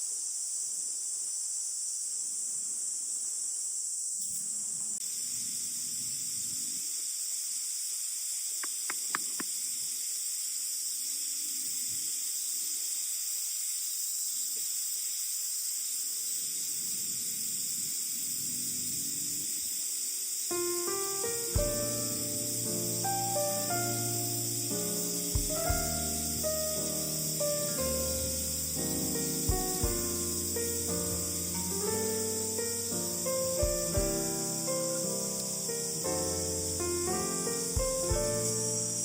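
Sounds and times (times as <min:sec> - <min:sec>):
crickets and insects chirping: 0:00.0 - 0:39.0.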